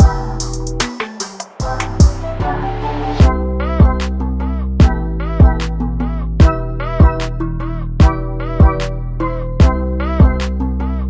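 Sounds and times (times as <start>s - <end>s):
music with deep bass and beat: 0.0s - 11.0s.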